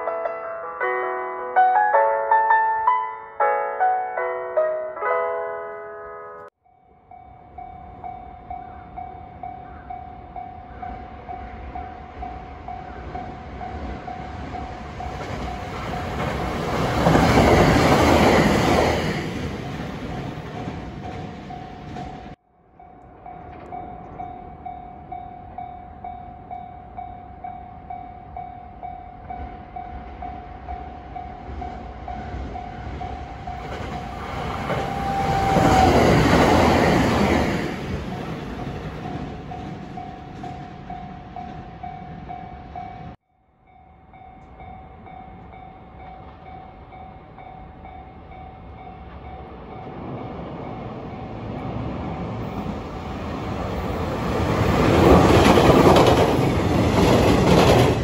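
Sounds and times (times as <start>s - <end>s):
electric train passing: 6.7s - 58.0s.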